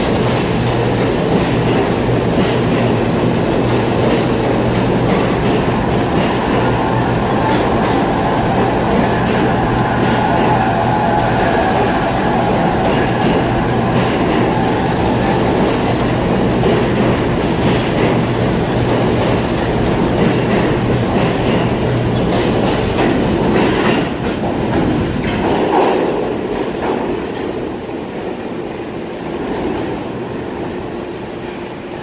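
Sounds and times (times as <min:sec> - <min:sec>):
low train hum: 0:00.0 - 0:32.0
train wheels clattering on rails: 0:00.0 - 0:32.0.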